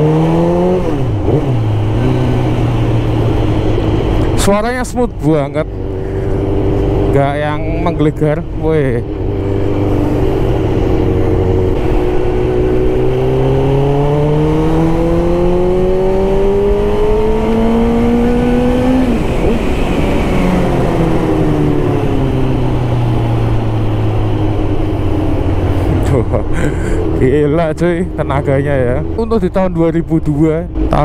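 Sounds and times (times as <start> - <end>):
motorcycle engine revving: 0.0 - 29.4.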